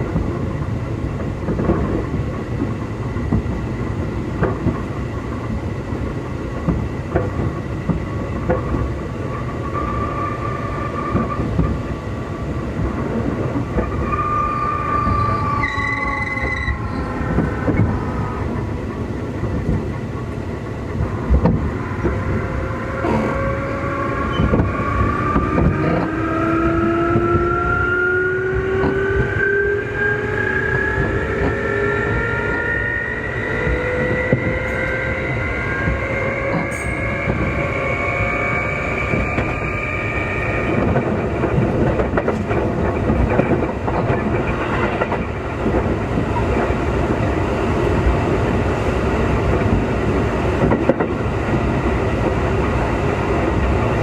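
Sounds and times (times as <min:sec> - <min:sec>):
rail joint clicks: 0:00.0 - 0:27.8, 0:30.4 - 0:37.9, 0:38.9 - 0:54.0
wheels rumbling on rails: 0:00.0 - 0:54.0.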